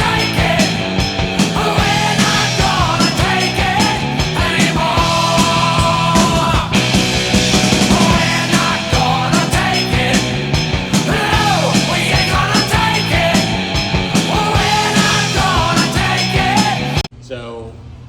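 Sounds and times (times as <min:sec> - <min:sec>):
rock music with singing: 0:00.0 - 0:17.1.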